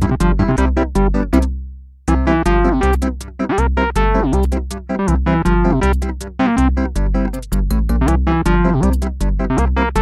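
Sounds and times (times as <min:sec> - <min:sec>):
keyboard chords: 0:00.0 - 0:10.0
steady bass beat: 0:00.0 - 0:10.0.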